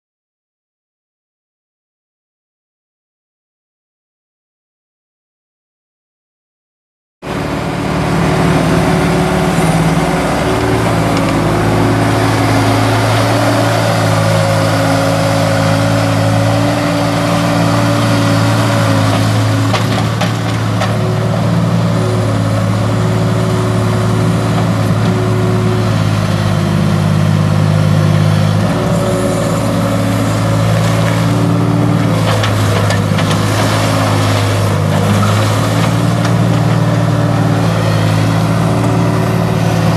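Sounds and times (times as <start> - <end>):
diesel engine running: 7.2 - 39.9.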